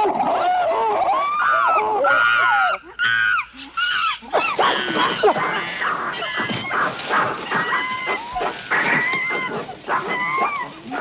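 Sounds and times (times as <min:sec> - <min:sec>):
chimpanzees calling excitedly: 0:00.0 - 0:11.0.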